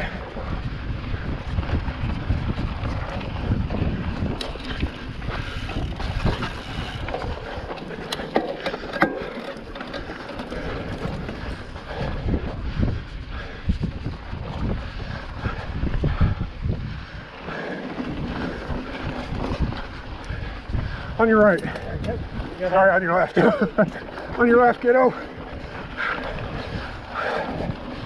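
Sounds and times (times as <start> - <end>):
wind rushing over microphone: 0.0 - 8.5, 9.1 - 28.0
bike rumbling over dirt trail: 0.0 - 28.0.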